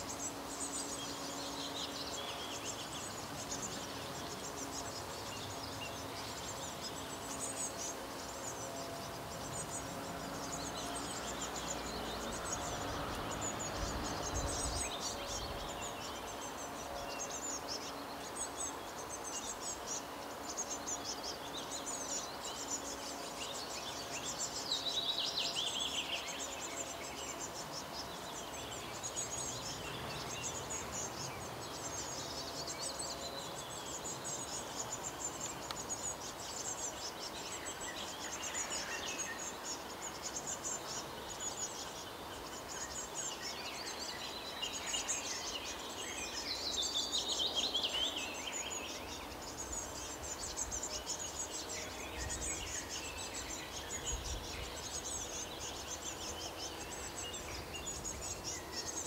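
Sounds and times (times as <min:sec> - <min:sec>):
nestling birds chirping: 0:00.0 - 0:59.0.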